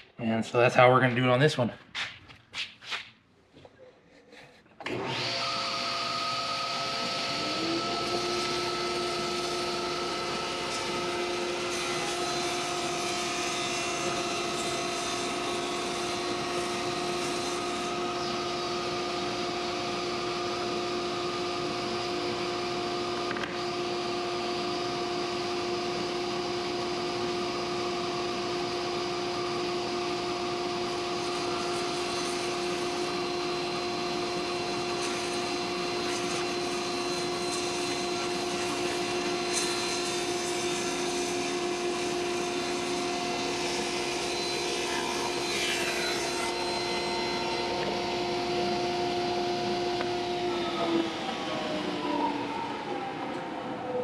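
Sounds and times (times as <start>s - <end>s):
table saw whining: 4.8s - 54.0s.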